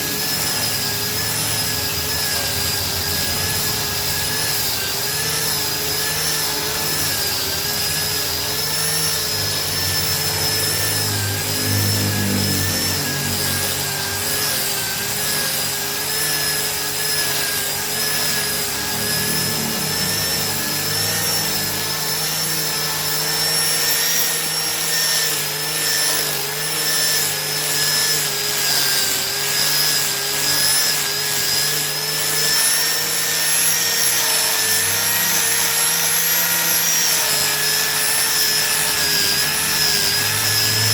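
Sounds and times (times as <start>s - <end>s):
abrasive rasping on wood: 0.0s - 40.9s
angle grinder motor whine: 0.0s - 40.9s.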